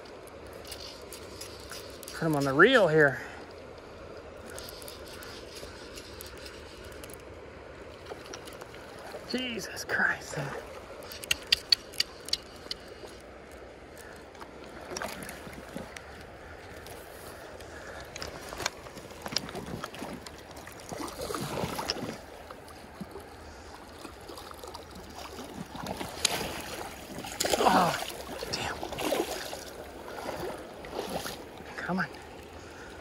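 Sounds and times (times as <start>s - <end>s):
water sloshing: 0.0s - 33.0s.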